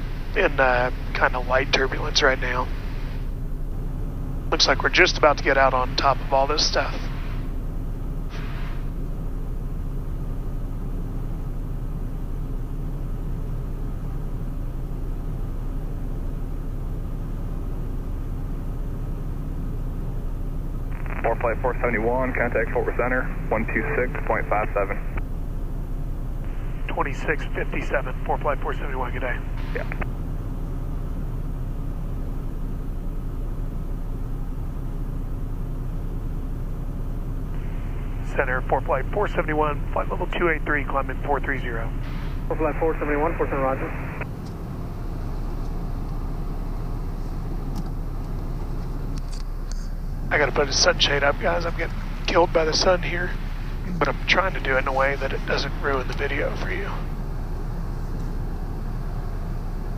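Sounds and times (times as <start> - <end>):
jet engines humming: 0.0 - 59.9.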